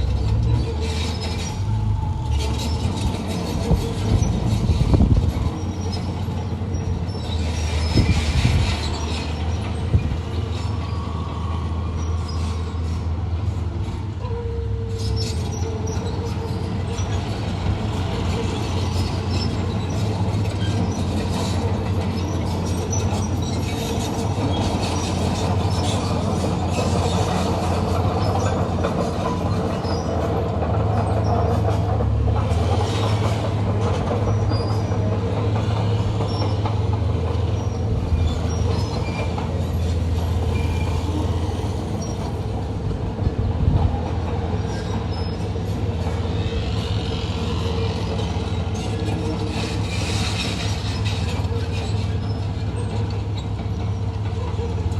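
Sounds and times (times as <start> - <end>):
bulldozer diesel engine running: 0.0 - 54.9
steel tracks squealing and clanking: 0.0 - 54.9.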